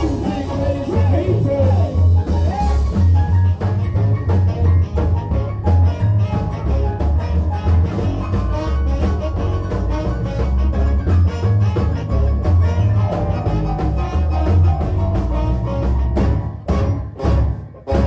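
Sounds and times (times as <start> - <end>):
drum hits: 0.0 - 18.0
live band playing ska: 0.0 - 18.0
loud bass line: 0.0 - 18.0.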